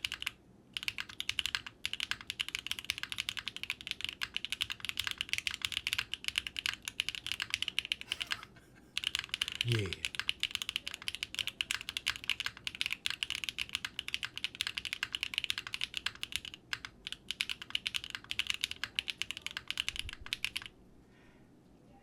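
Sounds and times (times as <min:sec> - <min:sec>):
mechanical keyboard typing: 0:00.0 - 0:20.7.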